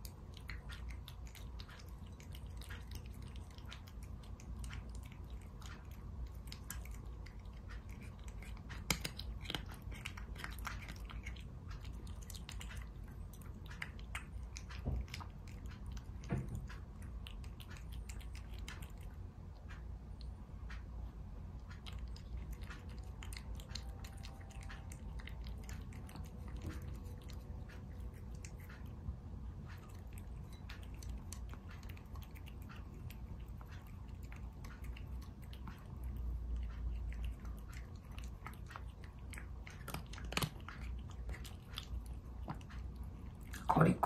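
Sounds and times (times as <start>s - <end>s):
cat crunching dry food: 0.0s - 19.7s, 21.6s - 29.0s, 29.6s - 44.0s.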